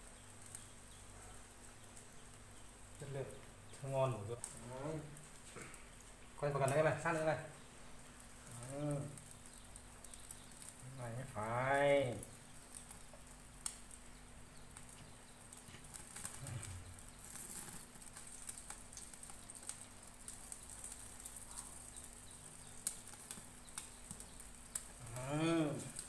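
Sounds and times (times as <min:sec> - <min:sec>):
meat sizzling on a grill: 0:00.0 - 0:26.0
sharp crackles and ticks: 0:00.0 - 0:26.0.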